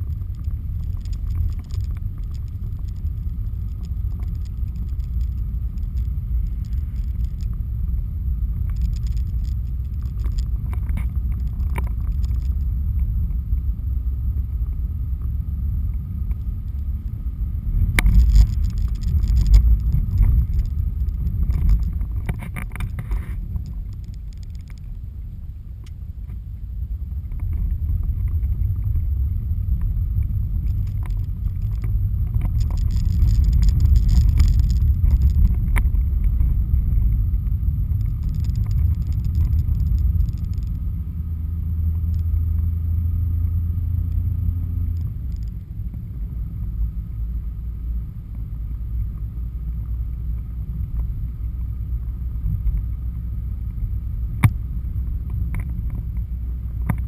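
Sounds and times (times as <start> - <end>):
car road noise rumble: 0.0 - 57.0.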